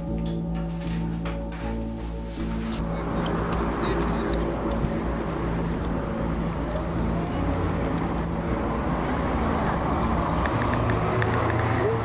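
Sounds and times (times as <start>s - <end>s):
city traffic rumble: 1.4s - 12.0s.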